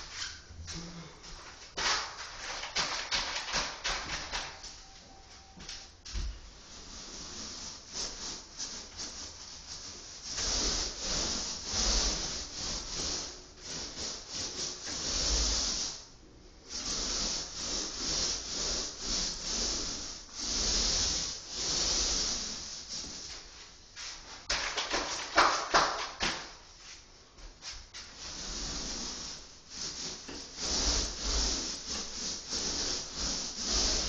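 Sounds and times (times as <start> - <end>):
painting tool rubbing a surface: 6.6 - 34.0.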